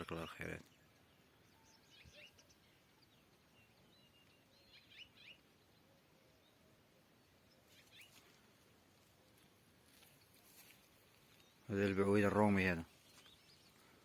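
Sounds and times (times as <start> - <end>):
faint bird chirps: 0.0 - 14.0
low steady hiss: 0.0 - 14.0.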